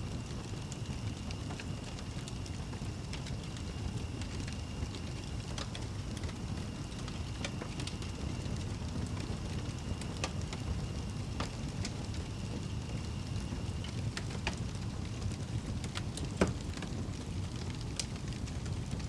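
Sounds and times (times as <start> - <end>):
fire crackling and popping: 0.0 - 19.0
fire rumbling: 0.0 - 19.0.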